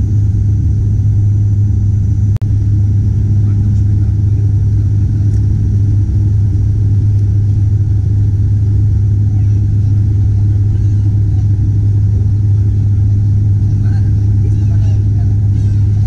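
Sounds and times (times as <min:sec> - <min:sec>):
engine rumble: 0:00.0 - 0:16.0
propeller drone: 0:00.0 - 0:16.0.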